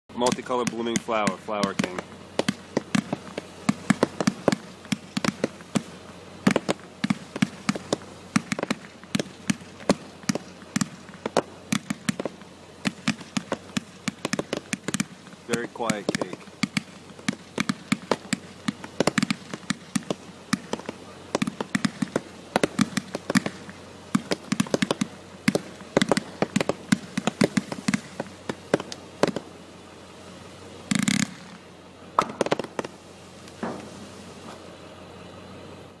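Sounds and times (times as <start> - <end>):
firework cake popping: 0.1 - 34.6.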